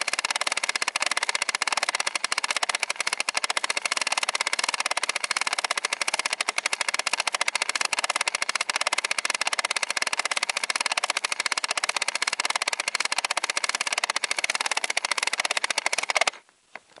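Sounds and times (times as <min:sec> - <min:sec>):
rapid plastic clicking mechanism: 0:00.0 - 0:17.0.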